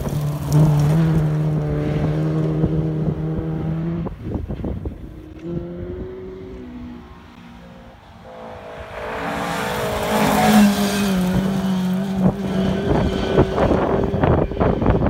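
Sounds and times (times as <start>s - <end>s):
rally car passing on gravel: 0.0s - 15.0s.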